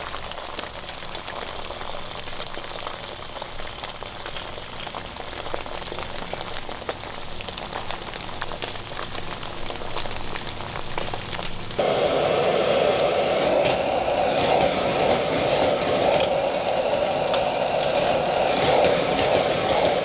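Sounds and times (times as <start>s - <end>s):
food sizzling in hot oil: 0.0s - 20.0s
gas burner flame roaring: 0.0s - 20.0s.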